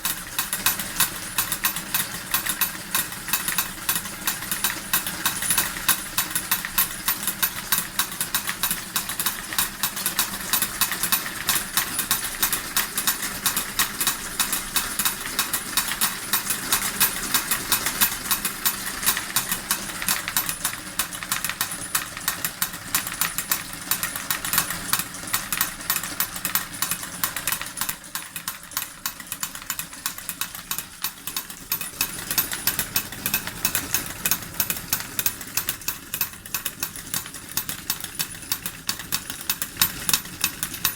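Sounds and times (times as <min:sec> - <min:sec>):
model steam engine running: 0:00.0 - 0:40.9
small hammers clattering: 0:00.0 - 0:40.9.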